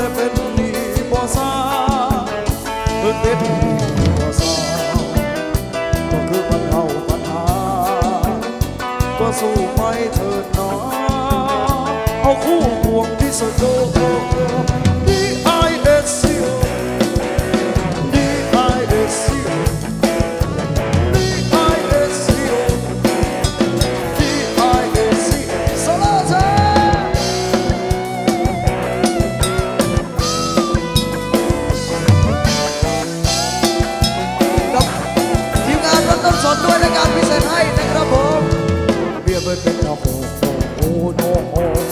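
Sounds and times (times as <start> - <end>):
dance band music: 0.0 - 41.9
drum kit steady beat: 0.0 - 41.9
sliding melody line: 0.0 - 41.9.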